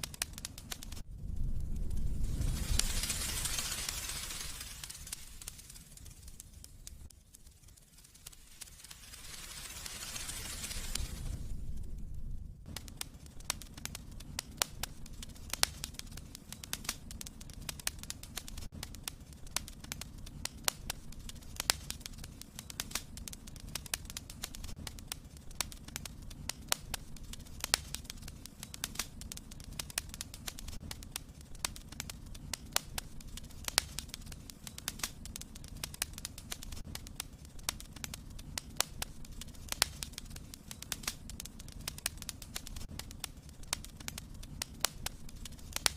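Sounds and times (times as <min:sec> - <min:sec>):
rush of flame: 0:00.0 - 0:45.9
wood fire crackling and popping: 0:00.0 - 0:45.9.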